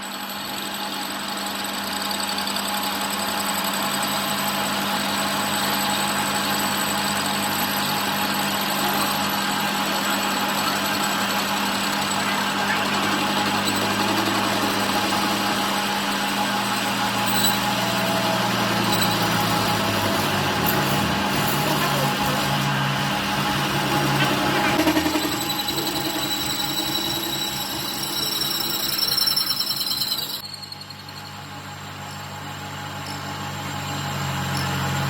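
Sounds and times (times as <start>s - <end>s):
workshop machinery motor hum: 1.2s - 35.0s.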